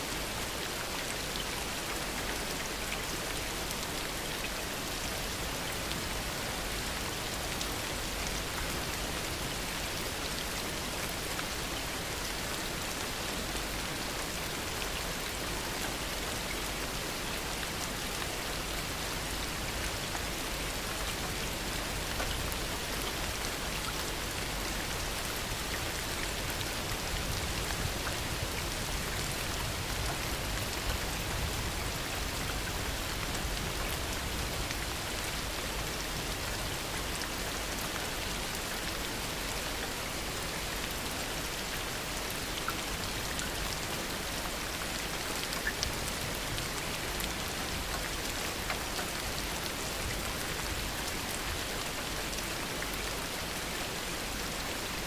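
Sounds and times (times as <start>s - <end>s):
raindrops pattering close by: 0.2s - 53.7s.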